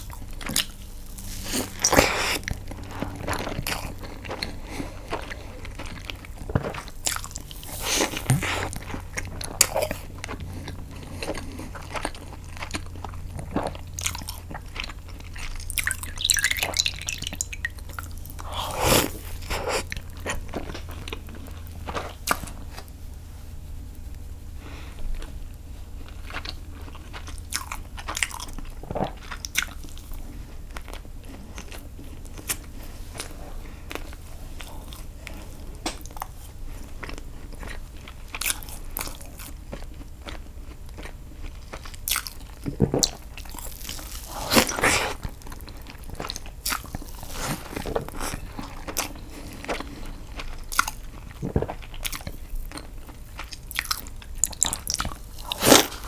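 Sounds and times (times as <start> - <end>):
wet chewing and biting: 0.0 - 23.0, 25.1 - 56.0.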